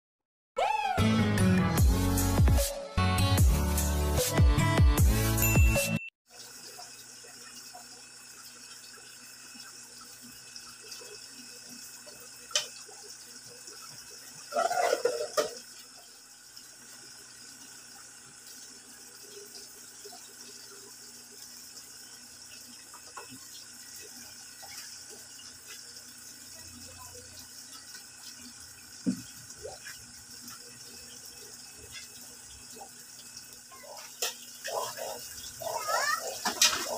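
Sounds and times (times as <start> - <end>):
water trickling from filter: 6.3 - 36.9.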